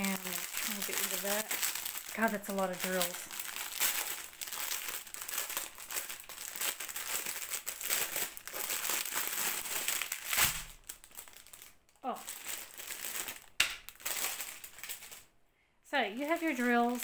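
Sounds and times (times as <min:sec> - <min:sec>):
plastic wrapping crinkling: 0:00.0 - 0:15.4, 0:16.1 - 0:17.0.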